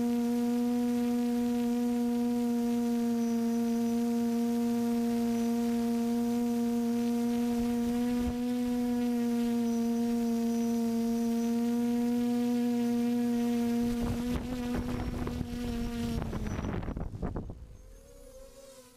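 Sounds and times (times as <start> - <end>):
steady droning hum: 0.0 - 18.9.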